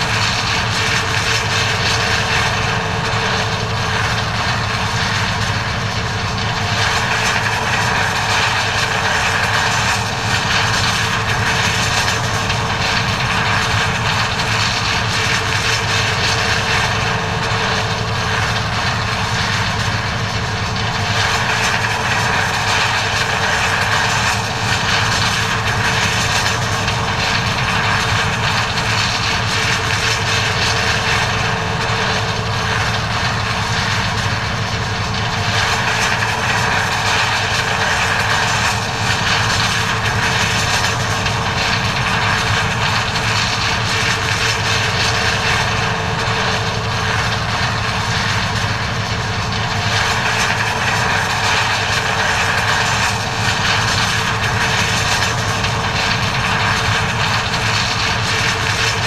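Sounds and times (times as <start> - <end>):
combine harvester engine hum: 0.0 - 59.0
steady machine whine: 0.0 - 59.0.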